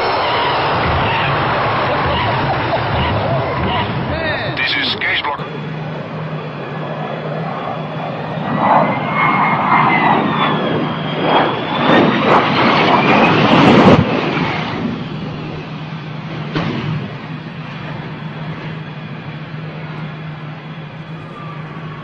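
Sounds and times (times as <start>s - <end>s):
jet engine roar and whine: 0.0s - 22.0s.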